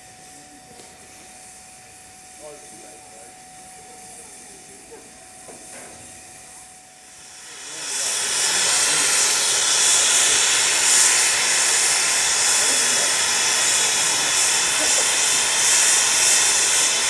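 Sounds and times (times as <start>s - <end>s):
steam hissing from locomotive: 0.0s - 17.0s.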